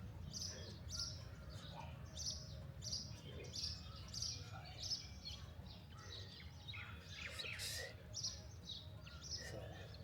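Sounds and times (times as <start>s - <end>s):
bird chirping: 0.3s - 10.0s.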